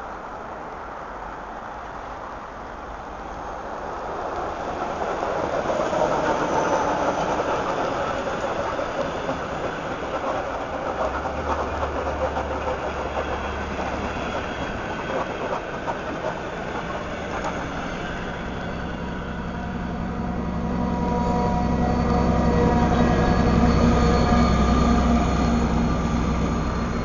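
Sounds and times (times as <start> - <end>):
train wheels rushing on rails: 0.0 - 27.0
rail joint clacks: 4.3 - 27.0.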